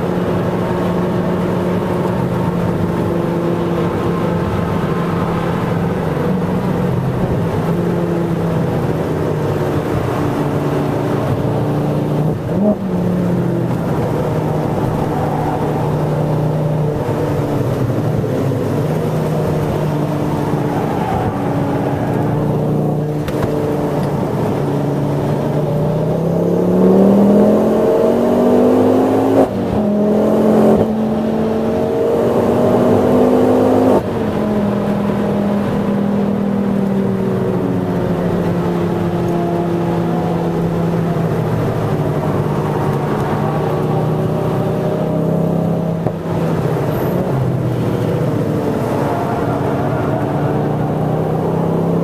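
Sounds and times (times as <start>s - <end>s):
car engine pulling hard: 0.0s - 52.0s.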